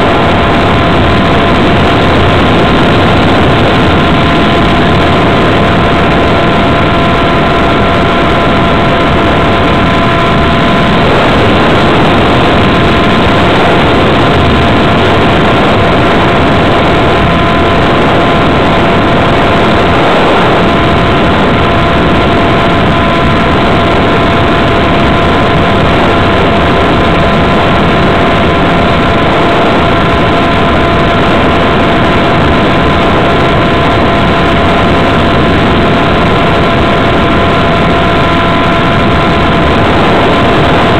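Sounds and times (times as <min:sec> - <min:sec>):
model plane motor drone: 0:00.0 - 0:40.9
wind rushing: 0:00.0 - 0:40.9.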